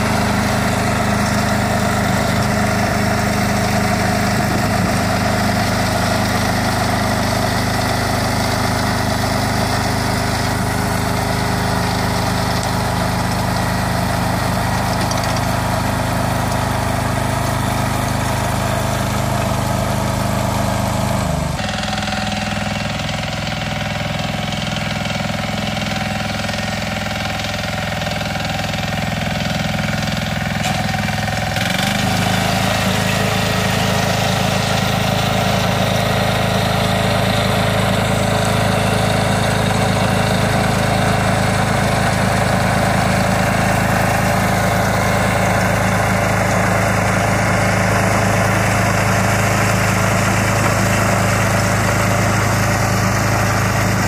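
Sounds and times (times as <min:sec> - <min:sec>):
diesel engine running: 0:00.0 - 0:54.0
rotary tiller churning soil: 0:00.0 - 0:54.0.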